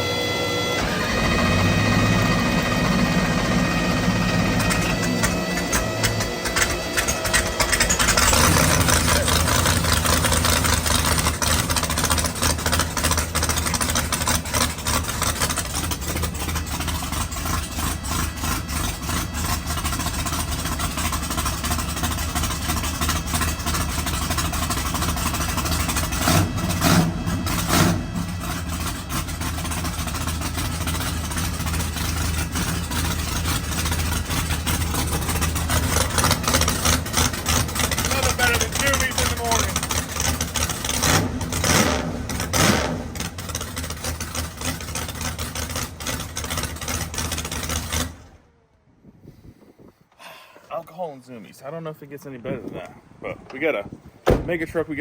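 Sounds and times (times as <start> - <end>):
car engine starting and idling: 0.0 - 49.0, 50.0 - 55.0.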